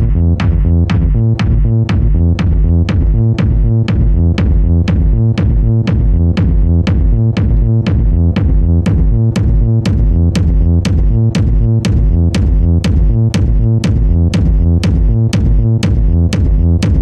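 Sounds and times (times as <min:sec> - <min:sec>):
techno music: 0:00.0 - 0:17.0.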